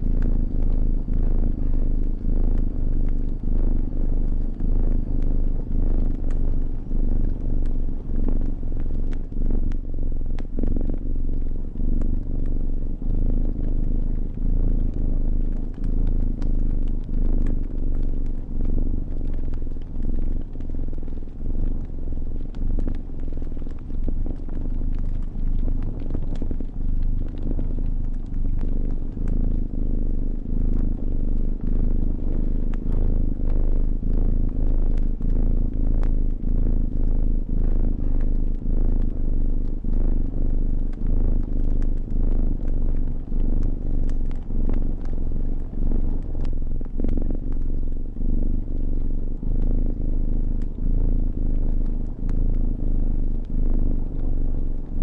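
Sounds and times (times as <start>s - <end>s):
cat purring: 0.0s - 55.0s
fire crackling: 0.0s - 55.0s.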